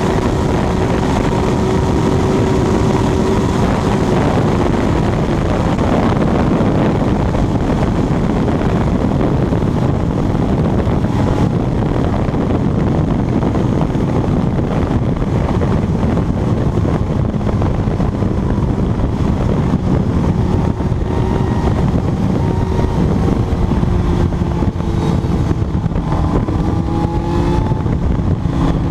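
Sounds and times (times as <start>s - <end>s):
motorcycle engine at high speed: 0.0s - 28.9s
wind rushing over microphone: 0.0s - 28.9s.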